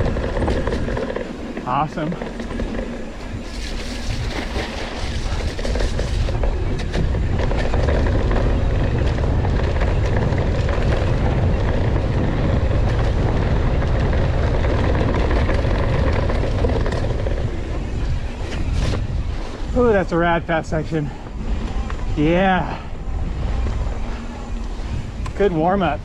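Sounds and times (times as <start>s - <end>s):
bike clicks and rattles: 0.0s - 26.0s
tyres rumbling on dirt: 0.0s - 26.0s
wind on microphone: 0.0s - 26.0s.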